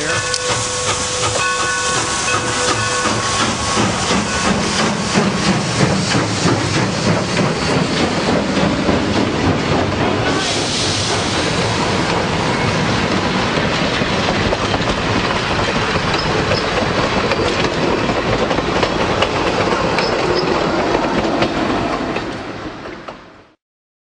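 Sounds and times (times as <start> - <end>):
train wheels clacking over rail joints: 0.0 - 23.2.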